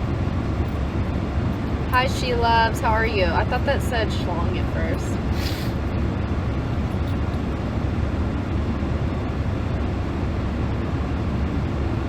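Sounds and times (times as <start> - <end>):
car cabin road and engine drone: 0.0 - 12.0.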